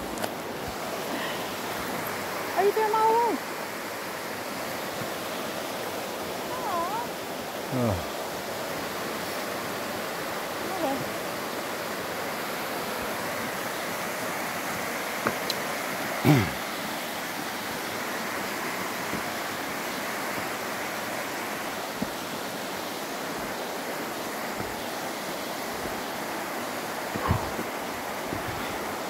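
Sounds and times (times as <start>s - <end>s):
waterfall rushing over rock: 0.0s - 29.0s.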